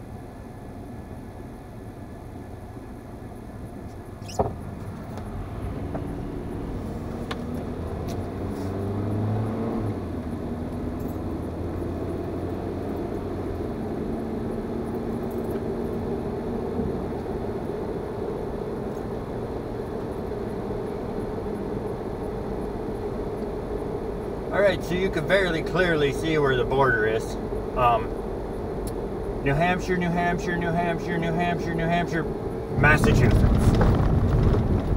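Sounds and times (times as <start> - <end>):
car engine and road noise: 0.0 - 34.9.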